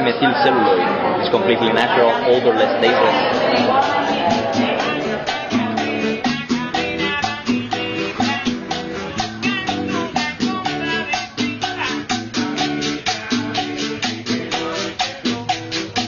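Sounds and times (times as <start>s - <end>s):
latin music with percussion: 1.8s - 16.0s.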